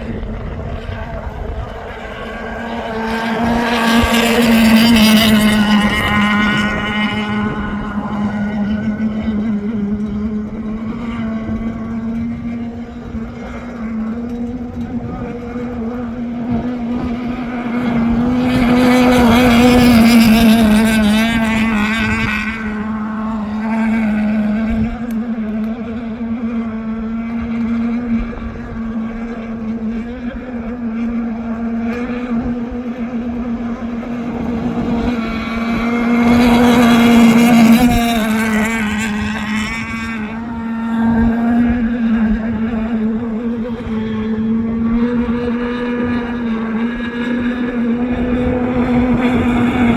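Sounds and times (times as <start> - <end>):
model boat motor droning: 0.0 - 49.9.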